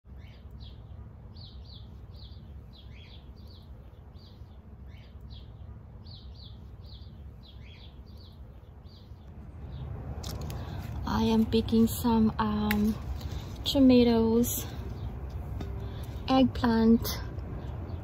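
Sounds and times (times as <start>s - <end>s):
bird chirping: 0.1s - 18.0s
steady low rumble: 0.1s - 18.0s.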